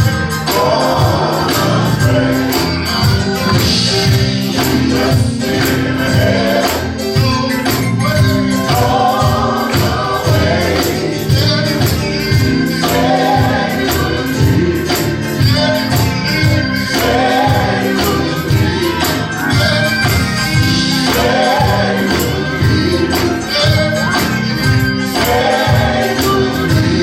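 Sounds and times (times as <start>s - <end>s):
band playing: 0.0s - 27.0s
choir singing: 0.0s - 27.0s
tambourine shaking: 0.0s - 27.0s.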